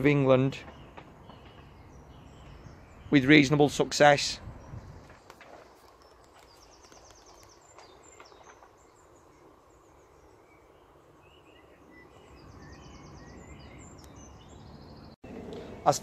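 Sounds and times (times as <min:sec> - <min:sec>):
songbirds trilling and chirping: 0:00.0 - 0:16.0.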